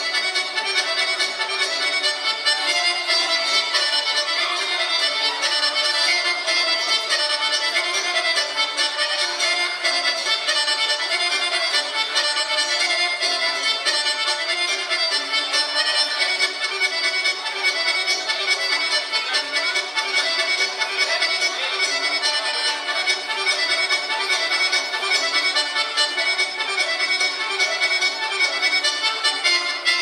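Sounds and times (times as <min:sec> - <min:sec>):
accordion playing folk dance tune: 0:00.0 - 0:30.0.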